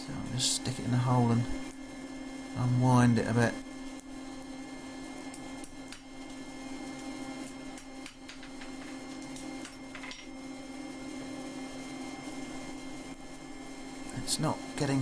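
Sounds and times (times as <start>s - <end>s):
forge humming: 0.0s - 15.0s.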